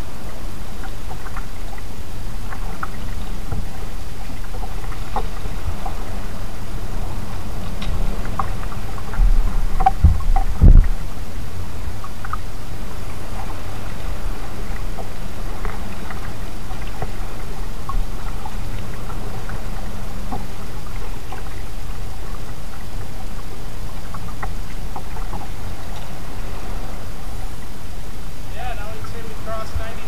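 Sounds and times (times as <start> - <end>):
paddle splashing and dripping: 0.0 - 30.0
steady low rumble: 0.0 - 30.0.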